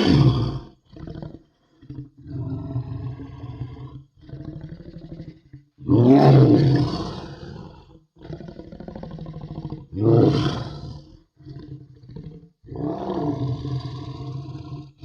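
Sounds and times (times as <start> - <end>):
crocodile roars: 0.0 - 15.0.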